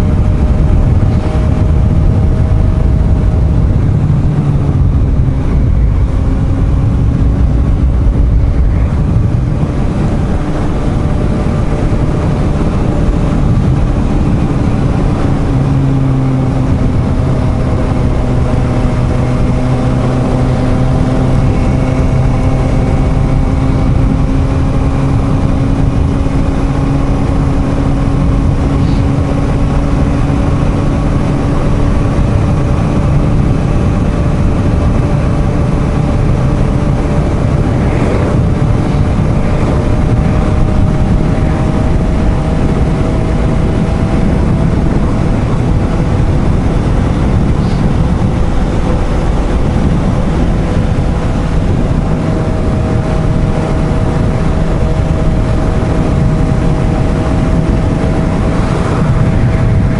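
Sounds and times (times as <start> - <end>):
motorcycle engine cruising: 0.0 - 59.9
wind rumbling on microphone: 0.0 - 59.9.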